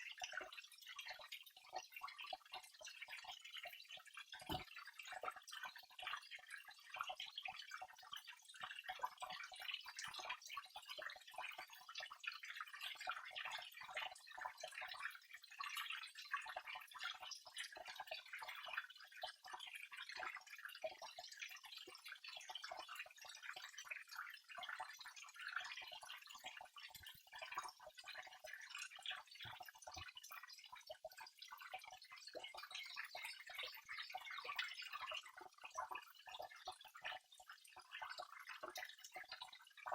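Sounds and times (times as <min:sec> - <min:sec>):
water trickling and splashing: 0:00.2 - 0:39.9.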